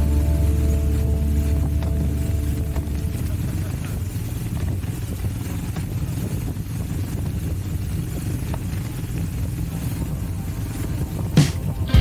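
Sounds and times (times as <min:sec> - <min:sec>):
motorcycle engine rumbling: 0:00.0 - 0:12.0
road noise: 0:00.0 - 0:12.0
wind rush: 0:00.0 - 0:12.0.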